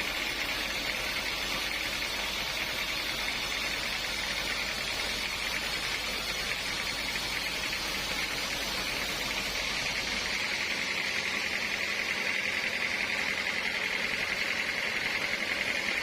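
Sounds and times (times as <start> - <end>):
sawmill saw cutting log: 0.0 - 16.0.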